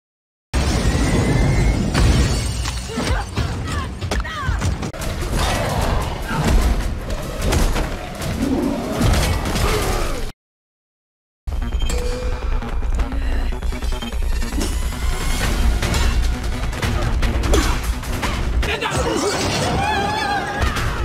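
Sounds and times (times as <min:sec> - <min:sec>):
trailer music: 0:00.6 - 0:10.3, 0:11.5 - 0:21.0.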